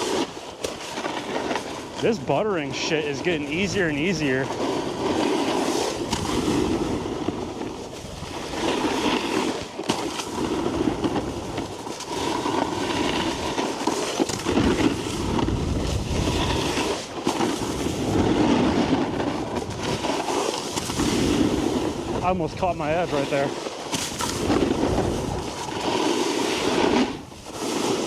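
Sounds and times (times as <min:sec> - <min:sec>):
snowboard scraping over snow: 0:00.0 - 0:28.0.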